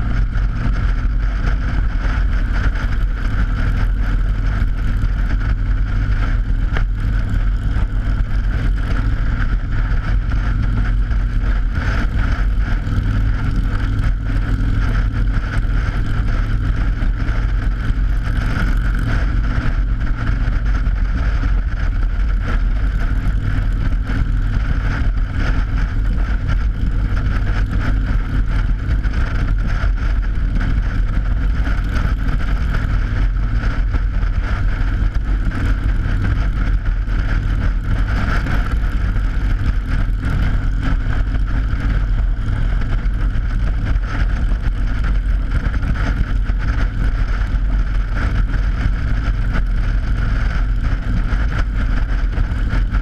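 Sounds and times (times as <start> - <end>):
motorcycle engine drone: 0.0 - 53.0
wind on microphone: 0.0 - 53.0.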